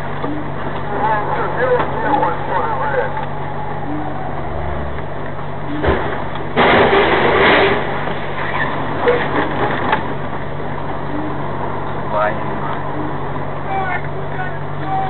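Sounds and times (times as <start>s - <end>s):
lorry engine humming: 0.0s - 15.0s.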